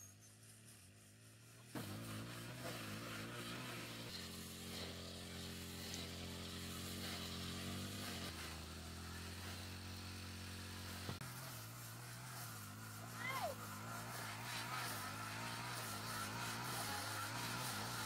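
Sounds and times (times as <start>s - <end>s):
small motorcycle engine running: 0.0s - 18.0s.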